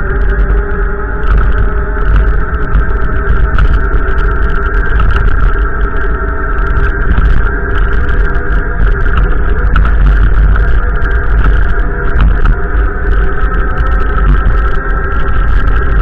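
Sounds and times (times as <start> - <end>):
motor hum: 0.0 - 16.0
wind buffeting microphone: 0.0 - 16.0.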